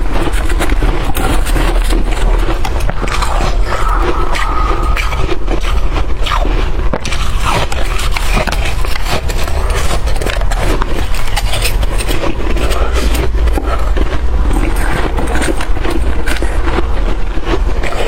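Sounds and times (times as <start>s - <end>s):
ice crunching while chewed: 0.0s - 18.0s.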